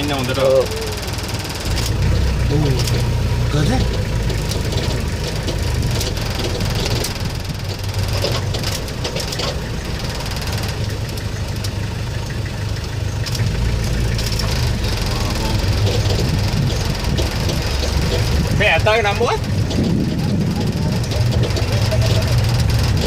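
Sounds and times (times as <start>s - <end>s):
jeep engine idling: 0.0s - 23.0s.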